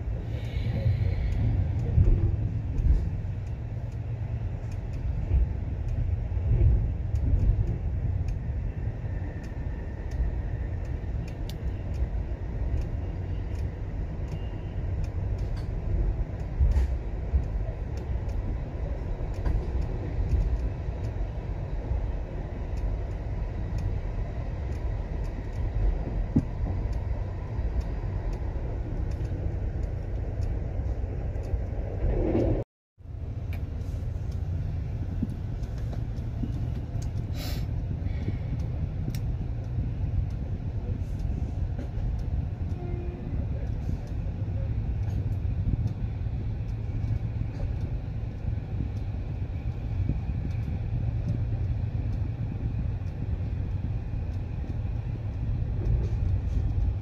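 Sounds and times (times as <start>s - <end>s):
train wheels rumbling on track: 0.0s - 57.0s
faint clicks: 0.2s - 32.6s, 33.5s - 57.0s.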